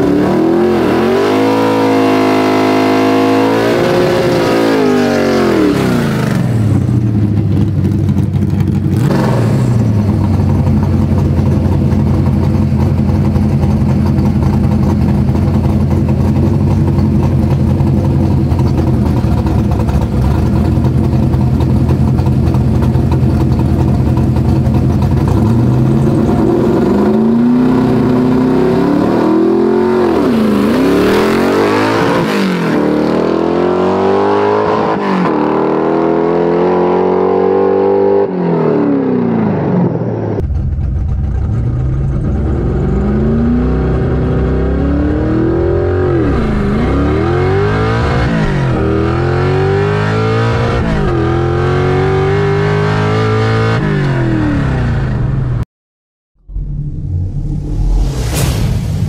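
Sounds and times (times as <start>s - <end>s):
car engine accelerating through gears: 0.0s - 55.6s.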